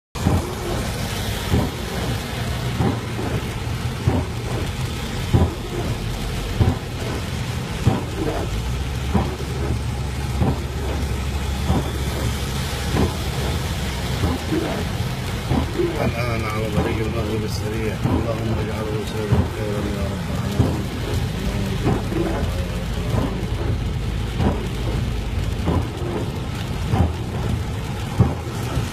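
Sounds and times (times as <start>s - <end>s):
heavy rain on a car: 0.2s - 28.9s
low rumble: 0.2s - 28.9s.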